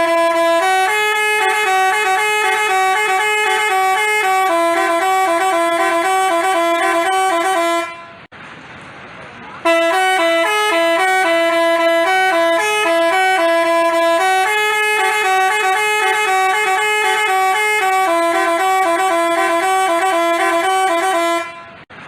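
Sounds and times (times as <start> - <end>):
multi-tone bus horn melody: 0.0 - 8.3, 9.6 - 22.0.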